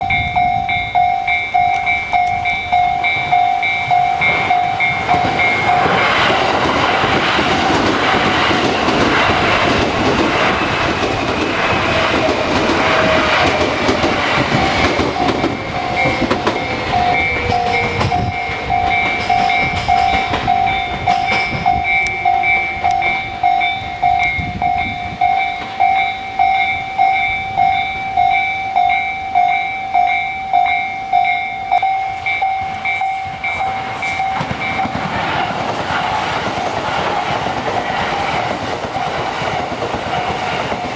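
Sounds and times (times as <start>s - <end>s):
level crossing alarm ringing: 0.0s - 35.8s
train whine falling in pitch: 0.0s - 36.1s
train wheels clattering on rails: 0.0s - 40.9s.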